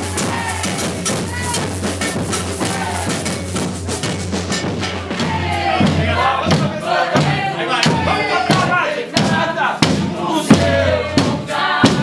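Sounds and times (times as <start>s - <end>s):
people singing: 0.0s - 3.8s, 4.9s - 12.0s
dance music with drum beat: 0.0s - 12.0s.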